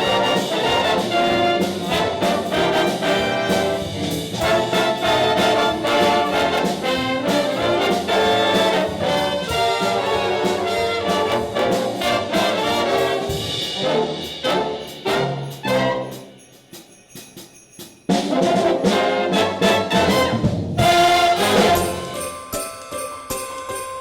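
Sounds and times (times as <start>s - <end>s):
school band playing brass music: 0.0s - 16.4s, 18.2s - 22.4s.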